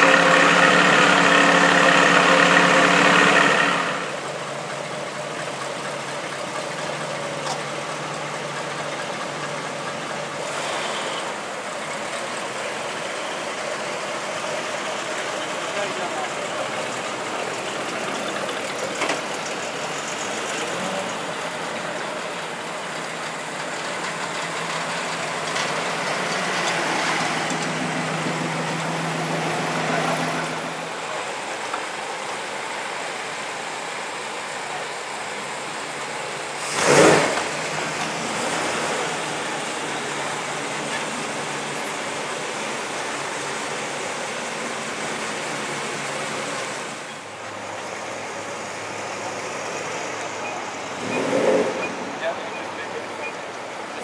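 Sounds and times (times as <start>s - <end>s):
cars driving slowly past: 0.0s - 54.0s
street traffic noise: 0.0s - 54.0s.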